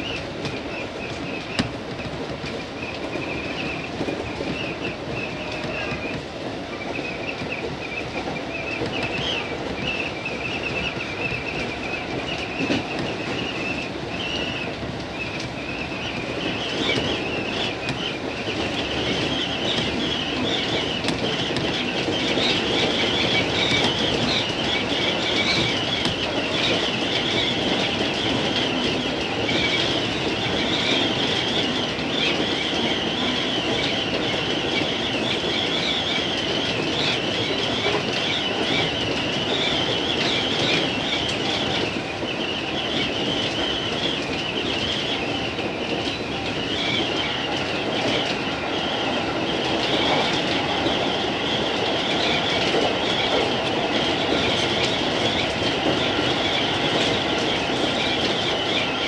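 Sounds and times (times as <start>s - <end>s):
train running noise: 0.0s - 59.0s
wheel squeal: 6.8s - 59.0s.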